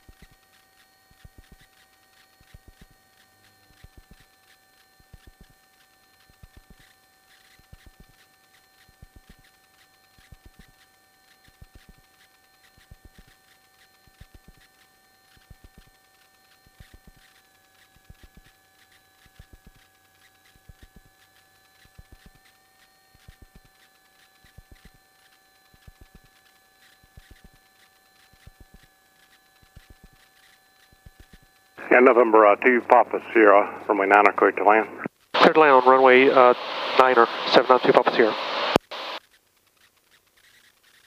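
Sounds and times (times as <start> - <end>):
faint electrical whine: 0.0 - 41.0.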